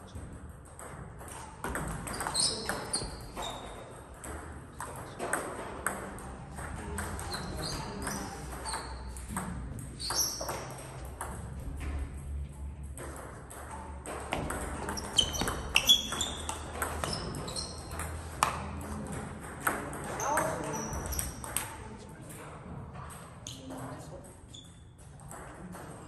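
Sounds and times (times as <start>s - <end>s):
table tennis ball pinging: 0.2s - 21.7s.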